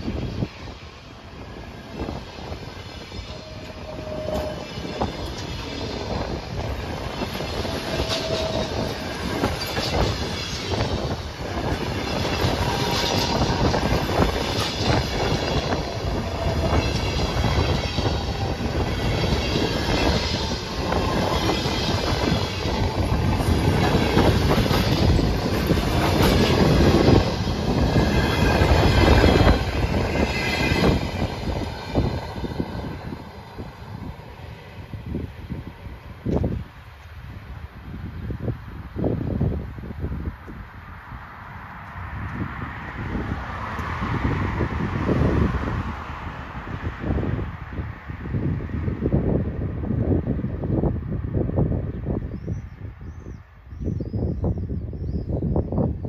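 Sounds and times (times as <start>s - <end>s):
train wheels on rails: 0.0s - 39.5s, 40.2s - 51.0s.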